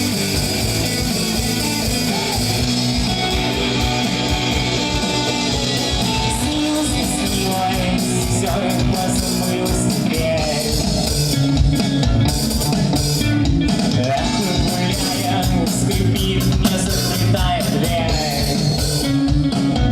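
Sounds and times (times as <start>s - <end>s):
live rock band playing: 0.0s - 19.9s
pounding drum kit: 0.0s - 19.9s.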